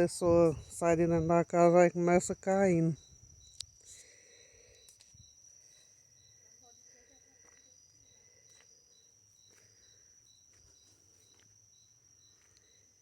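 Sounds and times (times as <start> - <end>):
cricket chirping: 0.0 - 13.0
insect trill: 0.0 - 13.0.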